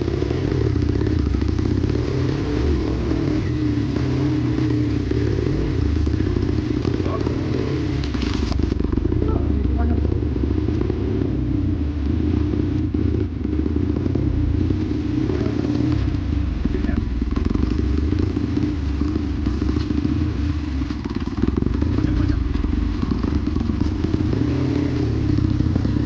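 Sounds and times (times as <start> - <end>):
clatter: 0.0 - 10.9, 12.8 - 26.0
dirt bike engine running: 0.0 - 26.0.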